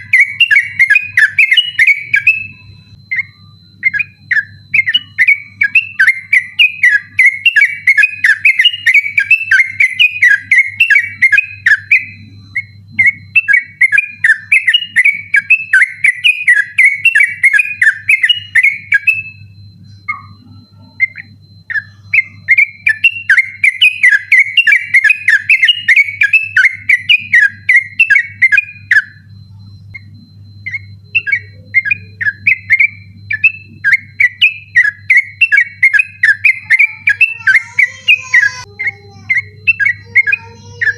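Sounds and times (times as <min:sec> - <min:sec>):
bird singing rapid whistled notes: 0:00.0 - 0:40.9
faint steady hum: 0:00.0 - 0:40.9.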